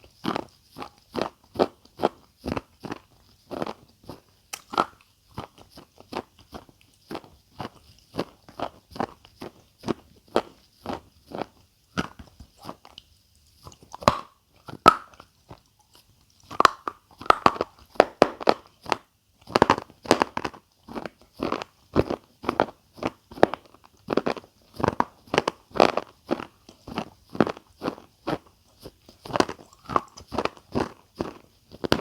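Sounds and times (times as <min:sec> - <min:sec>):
chewing crunchy food: 0:00.0 - 0:32.0.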